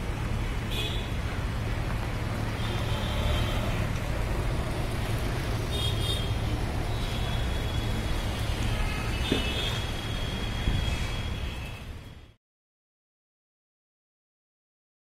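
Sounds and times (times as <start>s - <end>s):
cars and motorbikes passing: 0.0s - 12.2s.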